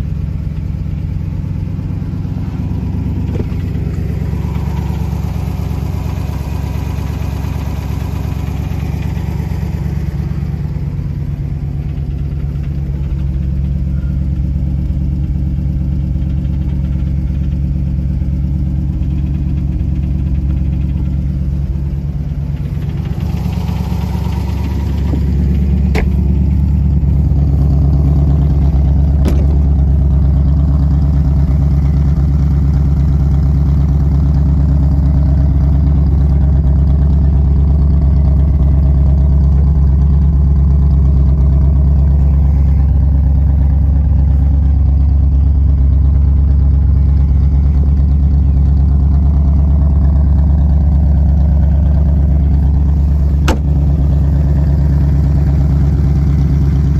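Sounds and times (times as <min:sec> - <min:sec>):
car engine idling: 0:00.0 - 0:56.9.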